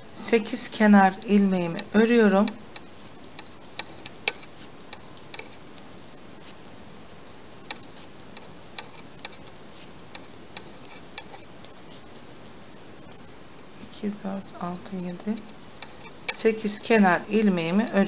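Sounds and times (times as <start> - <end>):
metal knitting needles clicking: 0.0 - 6.8, 7.5 - 11.8, 14.6 - 18.0.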